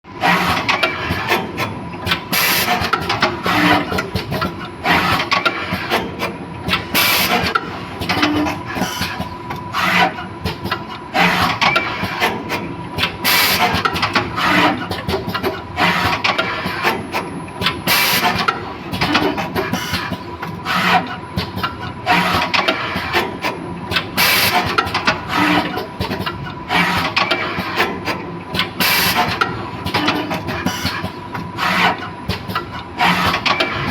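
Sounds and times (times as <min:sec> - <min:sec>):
machine clattering and clicking: 0:00.2 - 0:33.9.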